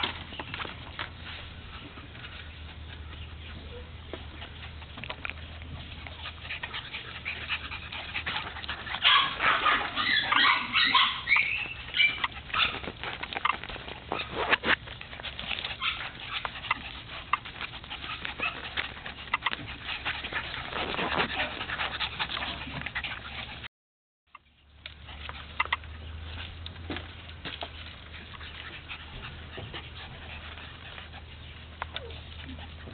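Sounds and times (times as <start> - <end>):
puppies whimpering: 0.0 - 23.7, 27.6 - 32.9.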